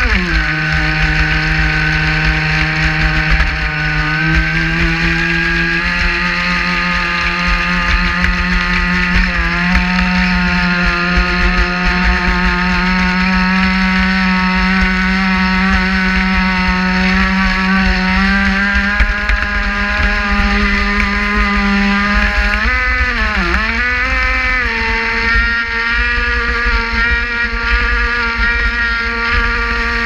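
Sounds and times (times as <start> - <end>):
electric motor high whine: 0.0 - 30.0.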